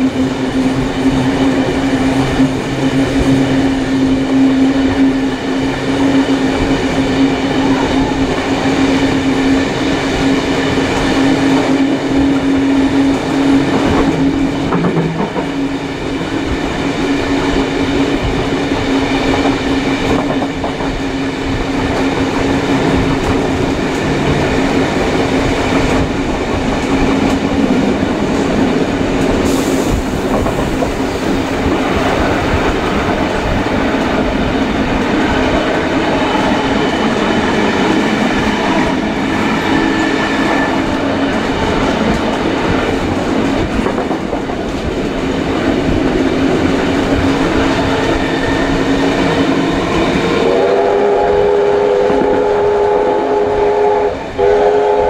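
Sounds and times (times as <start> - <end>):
train wheels roaring on rail: 0.0 - 55.0.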